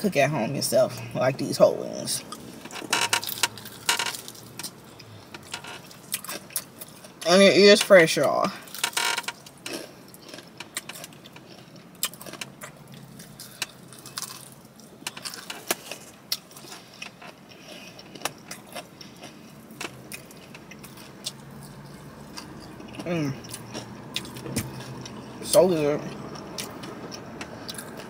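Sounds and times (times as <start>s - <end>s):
crunching fried chicken: 2.3s - 28.0s.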